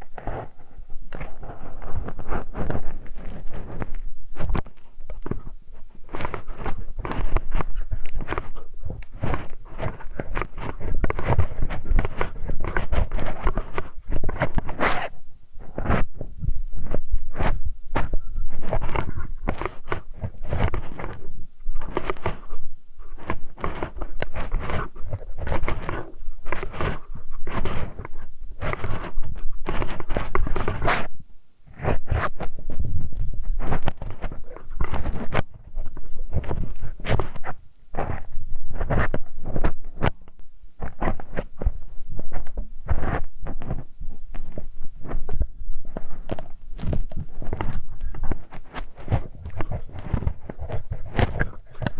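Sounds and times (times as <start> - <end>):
tool scratching on microphone: 0.0 - 51.9.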